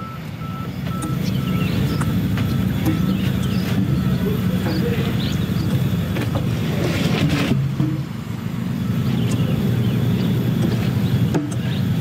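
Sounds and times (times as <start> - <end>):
large engine droning: 0.0 - 12.0.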